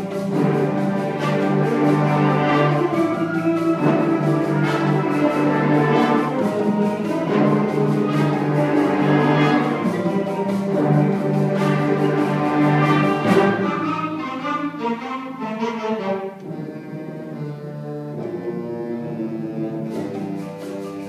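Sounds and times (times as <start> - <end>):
symphonic band playing: 0.0 - 21.0.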